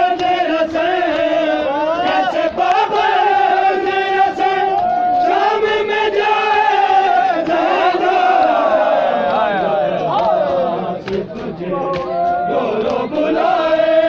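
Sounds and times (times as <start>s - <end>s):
large crowd noise: 0.0s - 14.0s
men chanting a lament: 0.0s - 14.0s.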